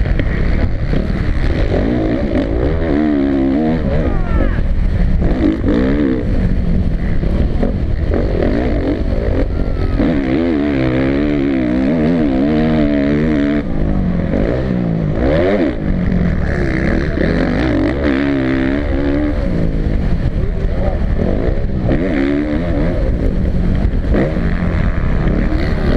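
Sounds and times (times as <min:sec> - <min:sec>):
motocross bike engine revving: 0:00.0 - 0:25.9.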